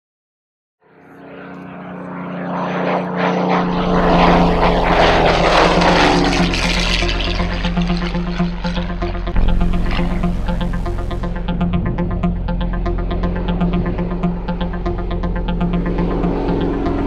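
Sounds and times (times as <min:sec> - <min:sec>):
propeller aircraft flying past: 0:00.8 - 0:17.0.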